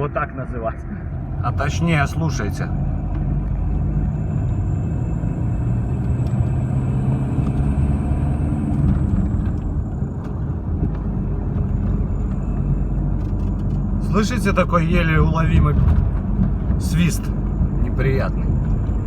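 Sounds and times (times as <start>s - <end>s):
diesel engine rumble: 0.0s - 19.0s.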